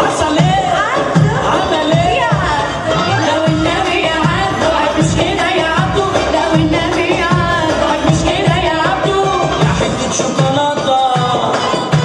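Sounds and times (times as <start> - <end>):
drum beat: 0.0 - 12.0
person singing: 0.0 - 12.0.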